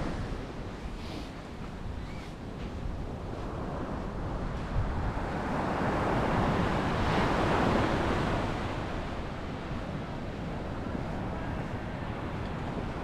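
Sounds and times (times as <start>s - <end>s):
waves breaking on sandy beach: 0.0s - 13.0s
wind buffeting microphone: 0.0s - 13.0s.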